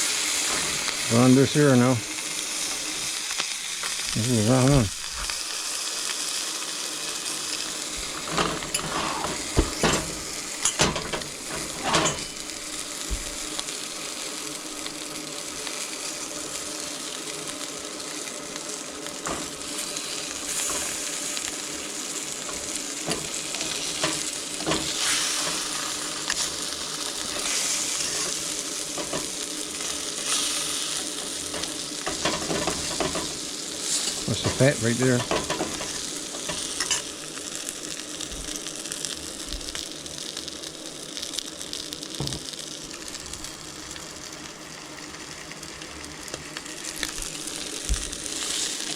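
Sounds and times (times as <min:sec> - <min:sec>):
fish sizzling in a pan: 0:00.0 - 0:48.9.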